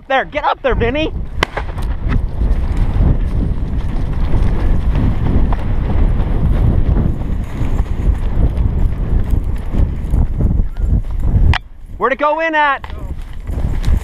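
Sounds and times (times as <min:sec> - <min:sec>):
wind rumbling on microphone: 0:00.0 - 0:14.0
running footsteps: 0:01.1 - 0:14.0.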